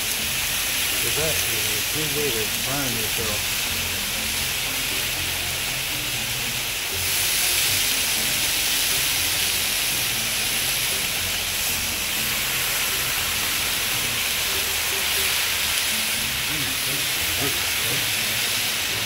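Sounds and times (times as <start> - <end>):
bacon sizzling on a griddle: 0.0 - 19.0.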